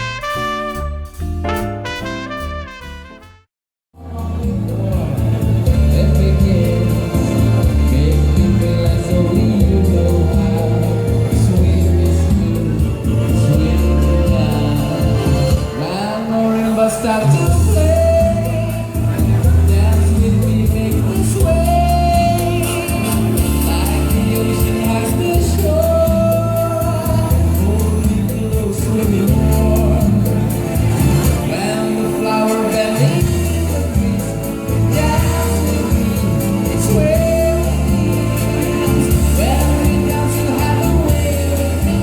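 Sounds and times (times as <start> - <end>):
band playing soft music: 0.0 - 3.4, 4.0 - 42.0
steady bass line: 0.0 - 42.0
person singing melody: 4.0 - 42.0.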